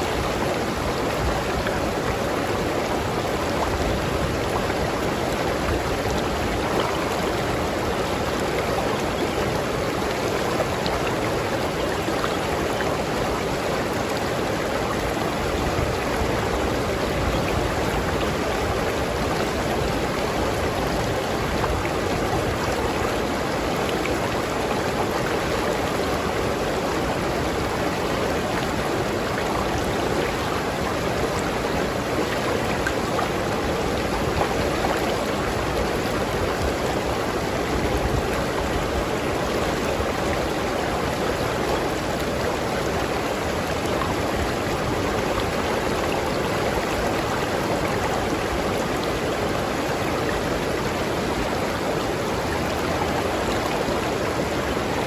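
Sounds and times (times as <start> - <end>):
river stream flowing: 0.0 - 55.0.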